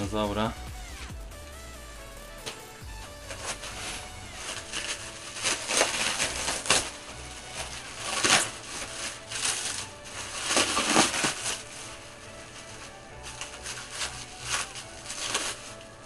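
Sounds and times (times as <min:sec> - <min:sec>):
plastic bag rustling and tearing: 0:02.4 - 0:16.0.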